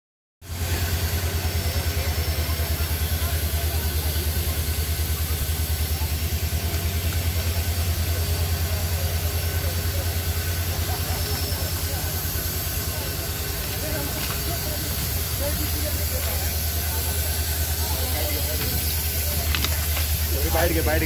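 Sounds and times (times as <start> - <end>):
large diesel engine idling: 0.4 - 21.0.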